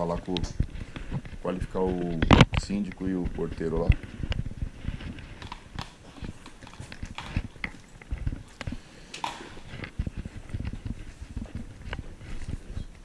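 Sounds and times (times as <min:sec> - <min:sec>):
footsteps on tiled floor: 0:00.0 - 0:13.0
rustling: 0:00.0 - 0:13.0.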